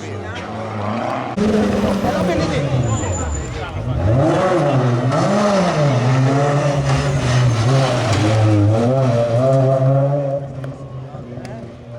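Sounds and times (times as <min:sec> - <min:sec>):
rally car engine revving: 0:00.2 - 0:11.9.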